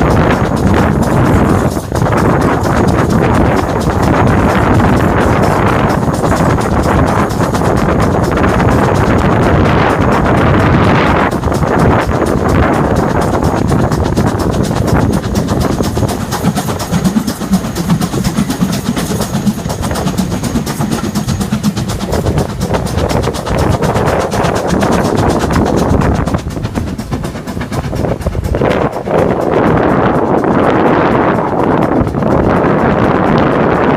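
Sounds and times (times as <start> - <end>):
steam train wheels clattering: 0.0 - 33.9.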